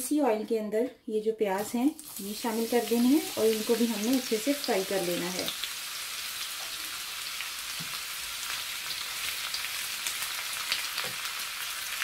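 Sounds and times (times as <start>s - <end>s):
onions sizzling in oil: 1.6s - 12.0s.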